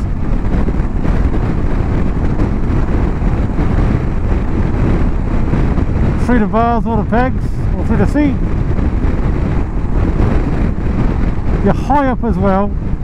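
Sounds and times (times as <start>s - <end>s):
motorcycle engine: 0.0s - 11.7s
wind buffeting microphone: 0.0s - 13.0s.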